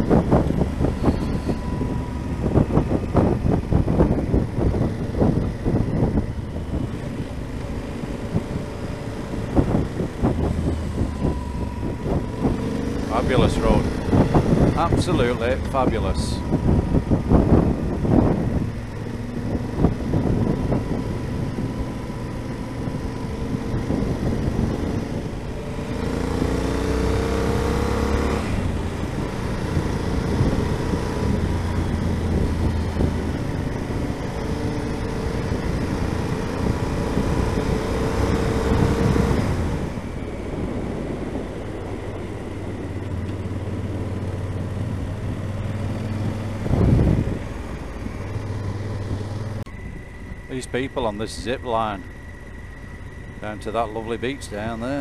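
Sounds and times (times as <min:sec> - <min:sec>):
motorcycle engine running: 0:00.0 - 0:50.5
wind rushing over microphone: 0:00.0 - 0:55.0.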